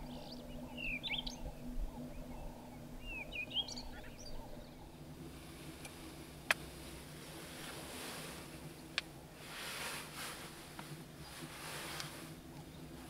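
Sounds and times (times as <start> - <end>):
faint steady hiss: 0.0 - 13.0
songbird chirping: 0.0 - 13.0.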